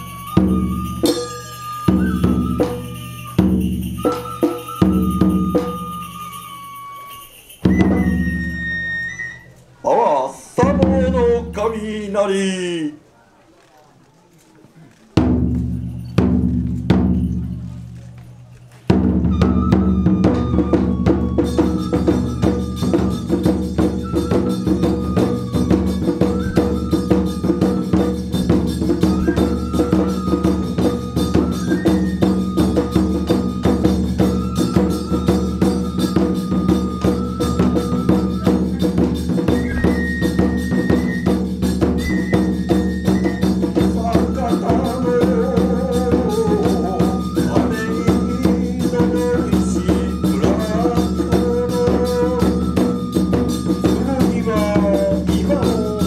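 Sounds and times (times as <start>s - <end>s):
drum beating: 0.0s - 6.4s, 7.4s - 9.6s, 10.3s - 12.9s, 15.2s - 18.0s, 18.8s - 56.0s
flute playing high notes: 0.0s - 9.6s, 19.2s - 56.0s
jingling percussion: 0.0s - 9.8s, 15.2s - 56.0s.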